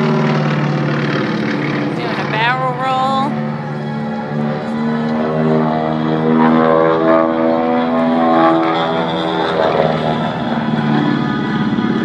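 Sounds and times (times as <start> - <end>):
propeller airplane engine: 0.0 - 12.0.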